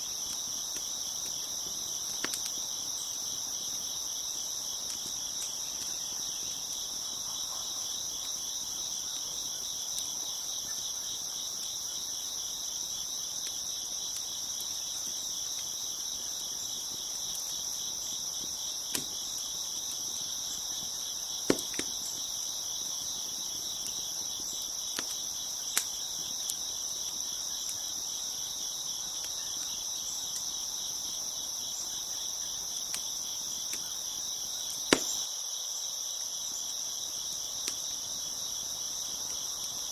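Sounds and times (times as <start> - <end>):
wood fire popping: 0.0 - 31.3, 32.6 - 35.3
crickets chirping: 0.0 - 39.9.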